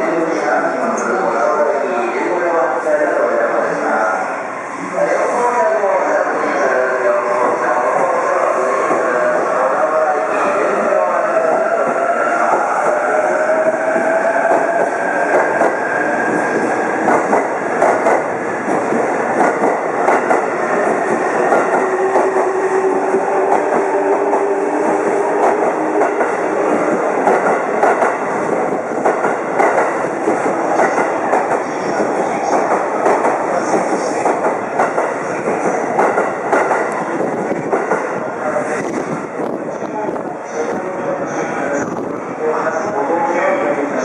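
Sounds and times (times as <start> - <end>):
electric train passing: 2.3 - 38.6.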